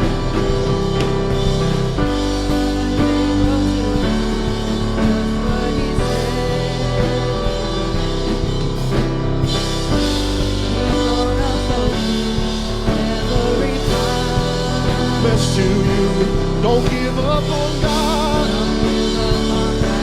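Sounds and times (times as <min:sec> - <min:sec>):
person singing: 0:00.0 - 0:20.0
worship band playing: 0:00.0 - 0:20.0.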